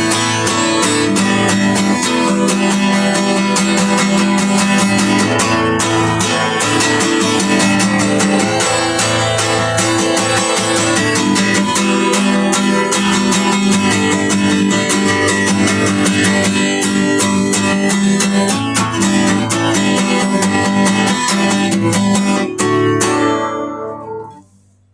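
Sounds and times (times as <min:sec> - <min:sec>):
guitar strummed and picked: 0:00.0 - 0:24.9.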